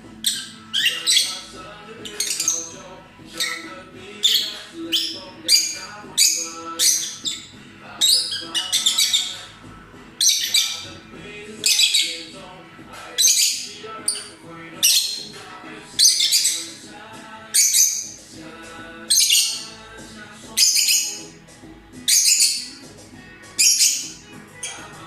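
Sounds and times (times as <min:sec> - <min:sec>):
lovebirds chirping and squawking: 0:00.0 - 0:25.0.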